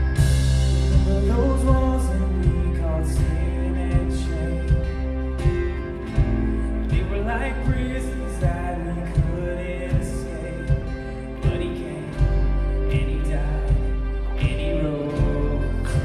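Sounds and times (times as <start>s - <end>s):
kick drum beat: 0.0s - 16.0s
worship band playing slow song: 0.0s - 16.0s.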